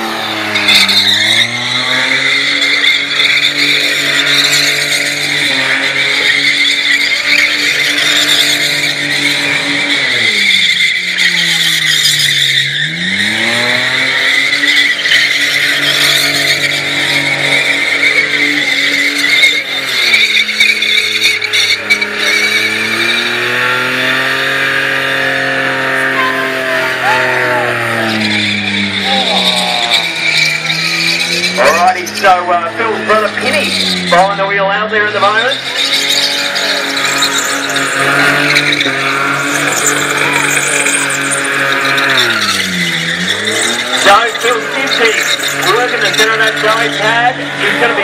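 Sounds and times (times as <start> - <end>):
car engine revving: 0.0 - 48.0
tyres squealing: 0.0 - 48.0.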